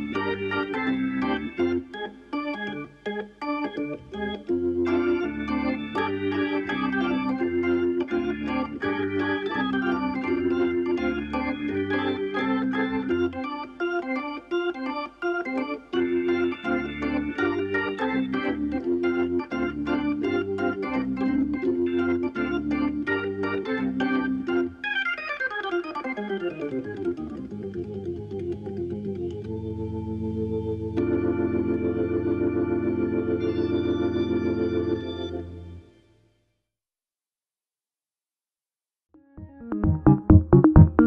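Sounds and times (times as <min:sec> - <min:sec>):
organ music: 0:00.0 - 0:36.0, 0:39.4 - 0:41.0.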